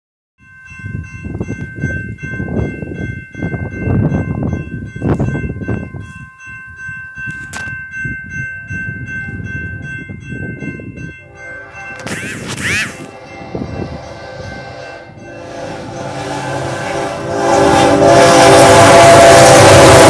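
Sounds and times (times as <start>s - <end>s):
crossing warning bell ringing: 0.4s - 20.0s.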